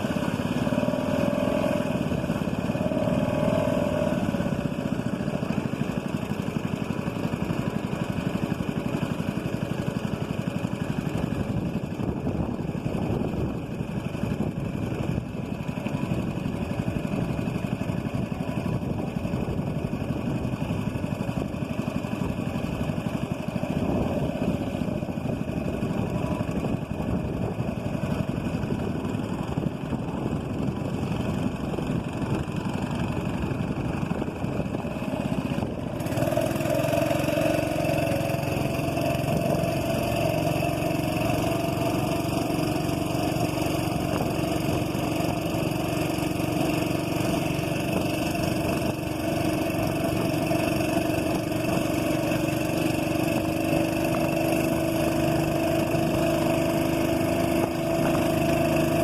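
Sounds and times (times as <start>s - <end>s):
small boat engine droning: 0.0s - 59.0s.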